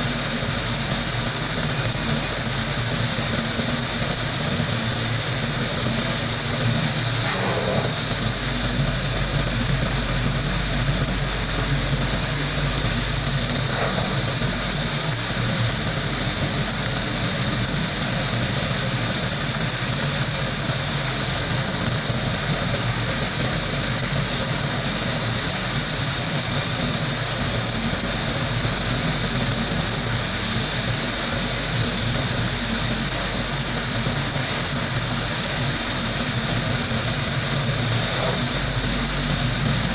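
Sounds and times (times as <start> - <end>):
compressed air hissing: 0.0 - 39.9.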